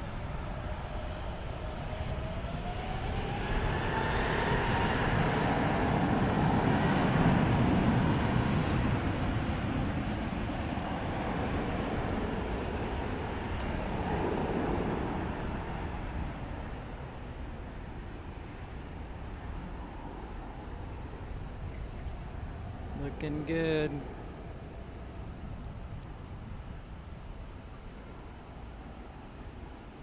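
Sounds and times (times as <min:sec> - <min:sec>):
jet engines roaring: 0:00.1 - 0:30.0.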